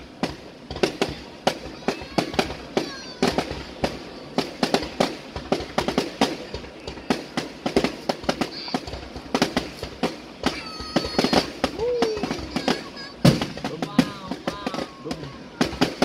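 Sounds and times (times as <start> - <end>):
fireworks sharp bangs: 0.0 - 16.0.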